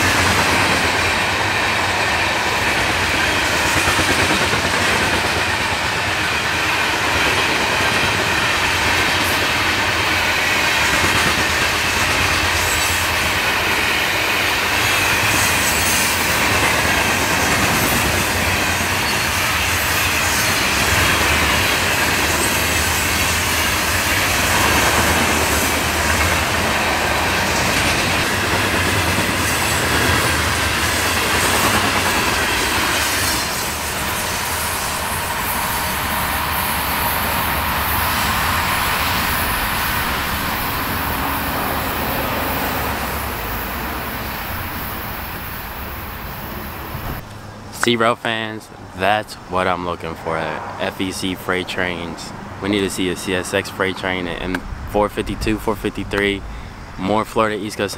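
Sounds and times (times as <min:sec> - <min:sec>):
wheels clacking over rail joints: 0:00.0 - 0:47.9
freight train wheels rumbling: 0:00.0 - 0:57.9.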